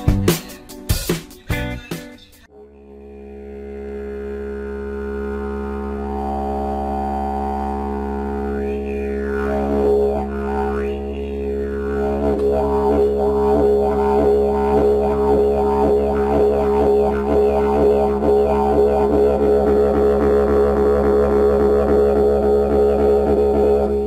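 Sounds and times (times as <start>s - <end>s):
music with low overtone drone: 2.4s - 24.0s.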